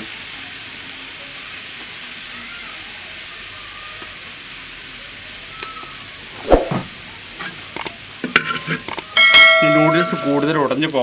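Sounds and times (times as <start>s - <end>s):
noodles sizzling in a hot pan: 0.0s - 6.4s, 7.0s - 11.0s.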